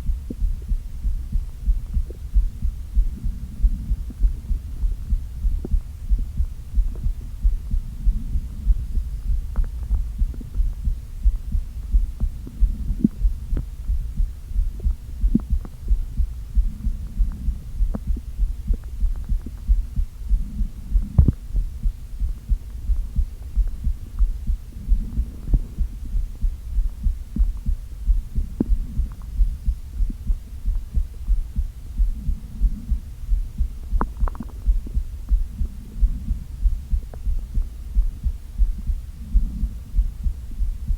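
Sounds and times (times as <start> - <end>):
low thumping pulse: 0.0 - 40.9
stomach gurgles and rumbles: 0.0 - 40.9.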